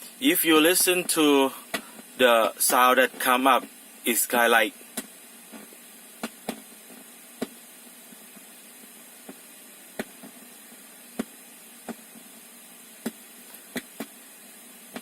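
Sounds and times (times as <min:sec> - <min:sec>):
speaker hiss: 0:00.0 - 0:15.0.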